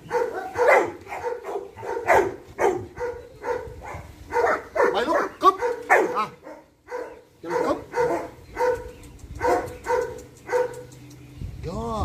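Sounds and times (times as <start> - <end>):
dog barking: 0.0 - 10.9.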